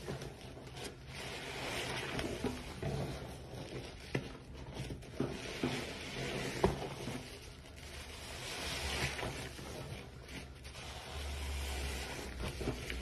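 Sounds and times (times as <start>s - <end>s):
sponge squelching in soapy water: 0.0s - 13.0s.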